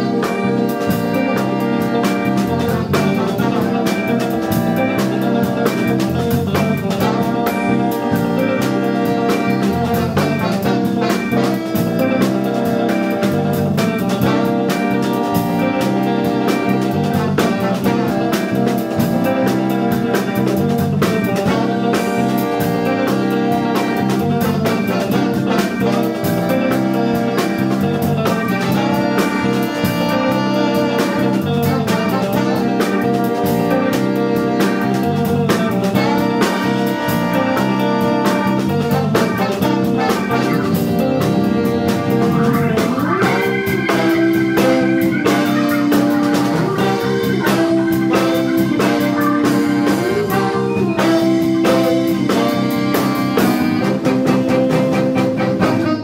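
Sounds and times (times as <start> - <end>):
funk band playing: 0.0 - 56.0
saxophones: 0.0 - 56.0
trombone: 0.0 - 56.0.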